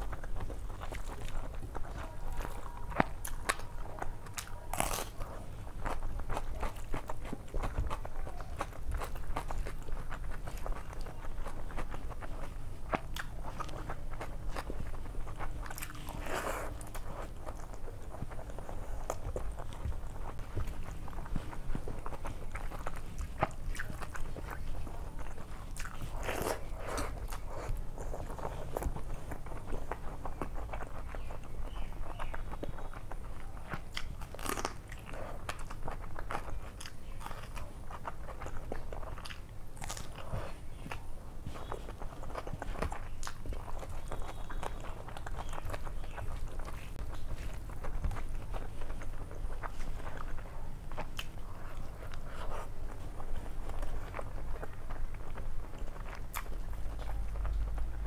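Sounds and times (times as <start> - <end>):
wet chewing and lip smacks: 0.0 - 58.0.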